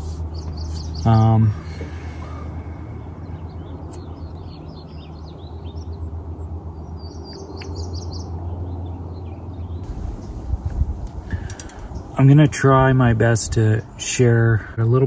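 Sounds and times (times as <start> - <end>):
low steady hum: 0.0 - 15.0
small songbirds chirping: 0.0 - 15.0.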